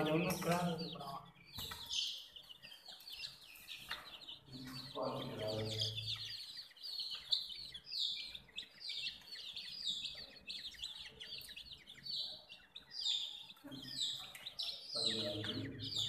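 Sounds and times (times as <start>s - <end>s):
baby chicks peeping: 0.0s - 16.0s.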